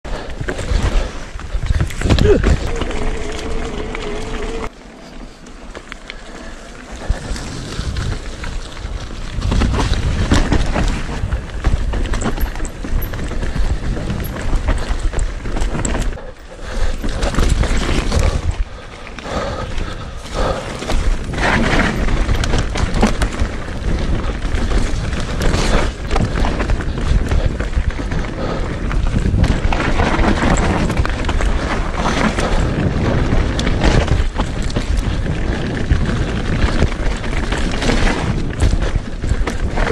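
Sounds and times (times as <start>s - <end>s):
bike rattling and knocking: 0.1s - 4.7s, 6.8s - 39.9s
wind rumble on microphone: 0.1s - 4.7s, 6.8s - 39.9s
tyre noise: 0.1s - 39.9s.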